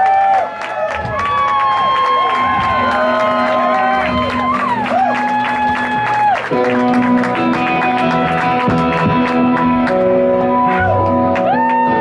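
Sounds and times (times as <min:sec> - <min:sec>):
electric guitars: 0:01.0 - 0:12.0.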